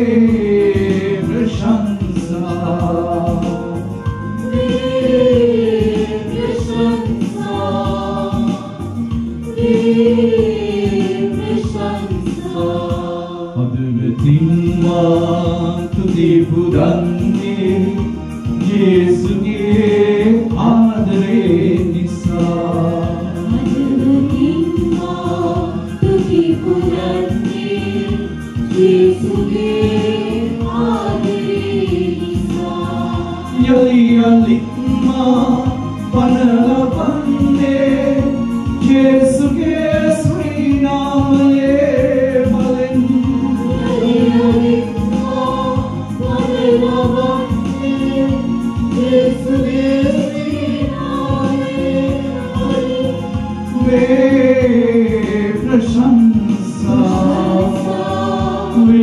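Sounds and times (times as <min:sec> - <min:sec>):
man singing worship song: 0:00.0 - 0:06.4, 0:12.4 - 0:28.0, 0:28.7 - 0:45.8, 0:46.4 - 0:59.0
backing singers: 0:00.0 - 0:59.0
instrumental accompaniment with beat: 0:00.0 - 0:59.0.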